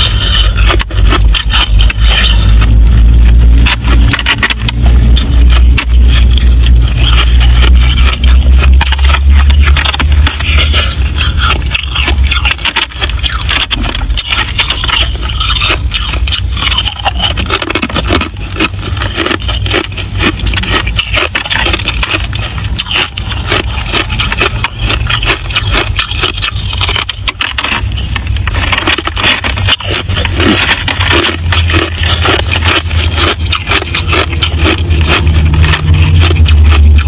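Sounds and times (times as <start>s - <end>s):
ice crunching while chewed: 0.0s - 37.0s
low rumble: 0.0s - 37.0s.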